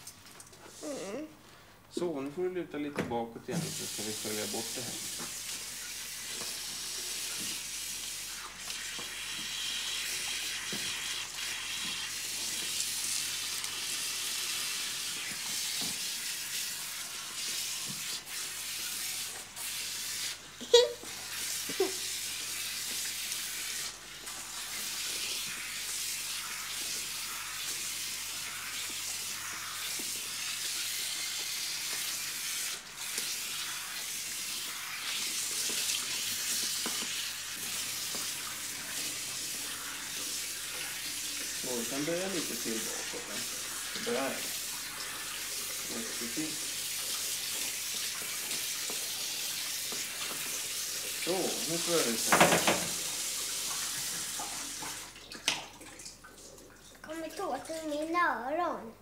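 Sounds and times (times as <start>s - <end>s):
water spraying into washbasin: 3.4s - 58.6s.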